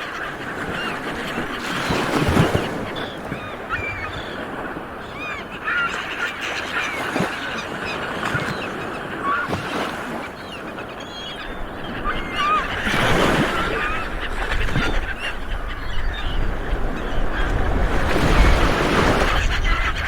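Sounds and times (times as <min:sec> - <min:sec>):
seabirds calling: 0:00.0 - 0:20.0.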